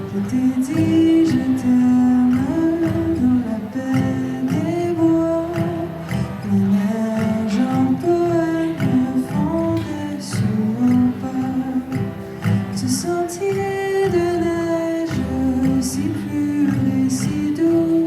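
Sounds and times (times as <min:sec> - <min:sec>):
live acoustic music: 0:00.0 - 0:18.0.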